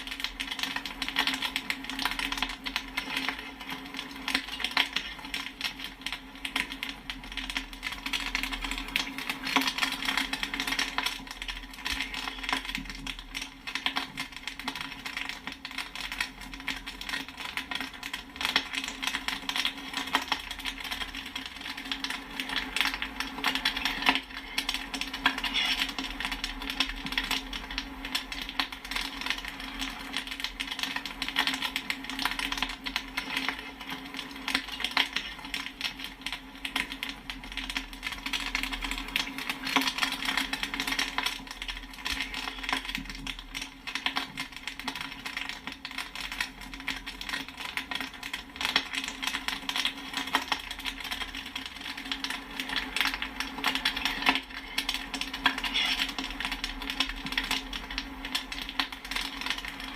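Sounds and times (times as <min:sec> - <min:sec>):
popcorn kernels popping: 0:00.0 - 0:59.9.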